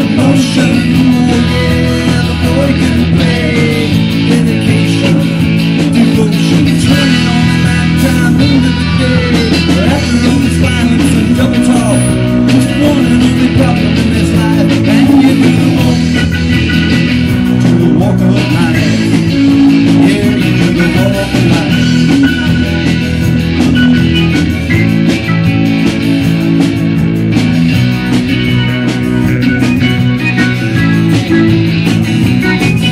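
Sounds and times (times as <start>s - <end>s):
bass guitar: 0.0s - 32.9s
drums: 0.0s - 32.9s
electric guitar: 0.0s - 32.9s
keyboard: 0.0s - 32.9s.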